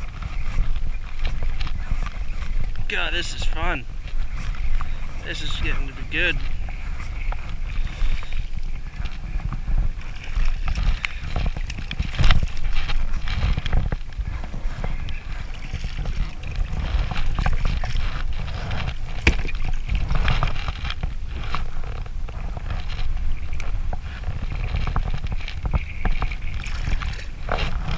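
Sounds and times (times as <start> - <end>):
water lapping at a kayak: 0.0 - 27.9
wind rumbling on microphone: 0.0 - 27.9.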